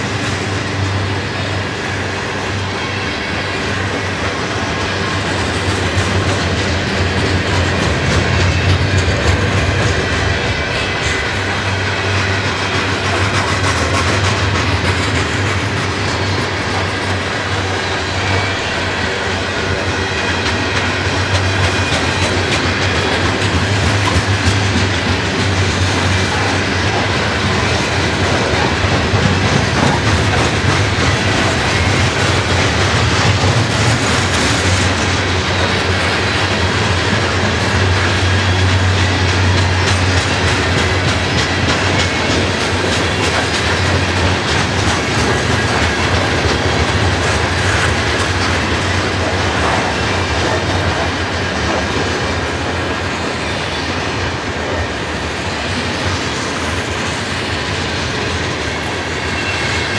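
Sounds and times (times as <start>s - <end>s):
clickety-clack over rail joints: 0.0s - 59.9s
steel wheels rumbling on rails: 0.0s - 59.9s.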